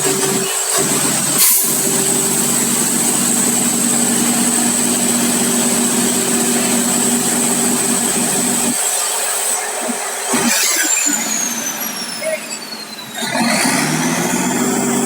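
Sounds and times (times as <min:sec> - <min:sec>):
concrete mixer truck running: 0:00.0 - 0:15.0.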